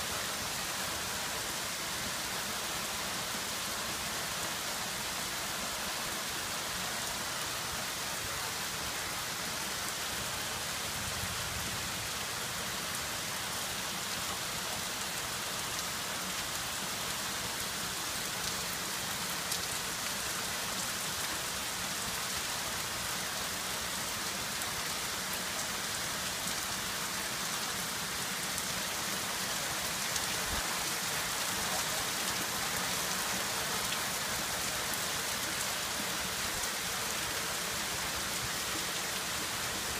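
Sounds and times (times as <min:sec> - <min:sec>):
rain on standing water: 0:00.0 - 0:39.9.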